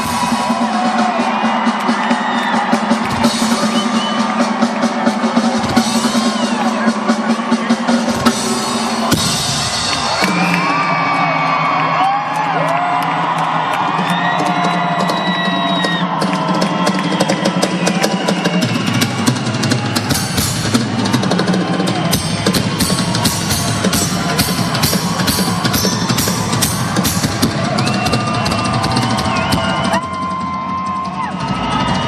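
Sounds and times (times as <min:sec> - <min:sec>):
rock drum solo: 0:00.0 - 0:11.2, 0:13.9 - 0:32.0.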